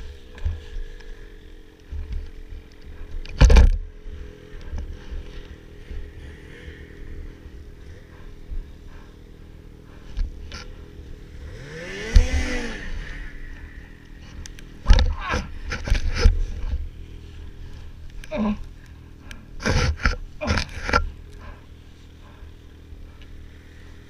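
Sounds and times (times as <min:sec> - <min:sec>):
snowmobile driving past: 0:00.0 - 0:24.0
snowmobile engine idling: 0:00.0 - 0:24.0.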